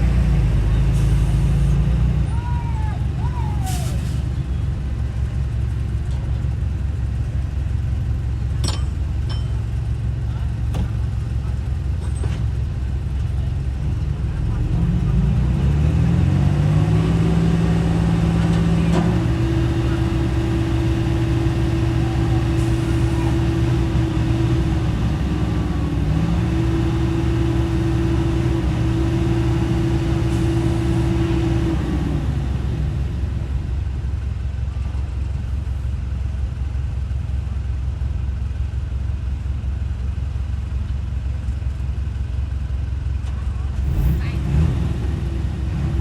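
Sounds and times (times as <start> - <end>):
diesel engine rumbling: 0.0 - 46.0.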